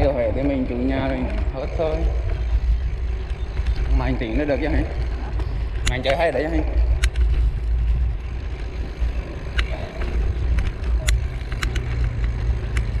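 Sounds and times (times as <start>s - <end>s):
bike clicks and rattles: 0.0s - 13.0s
tyres on concrete road: 0.0s - 13.0s
wind buffeting microphone: 0.0s - 13.0s.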